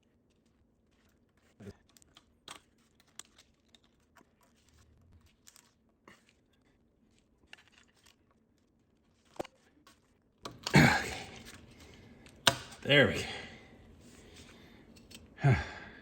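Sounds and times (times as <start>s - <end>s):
faint clicks and scrapes: 0.0s - 12.8s, 13.9s - 15.4s.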